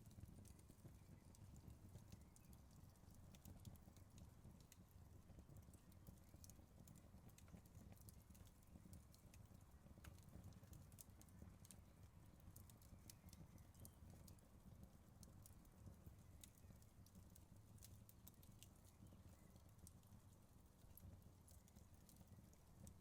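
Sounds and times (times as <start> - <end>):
wood fire crackling: 0.1 - 23.0.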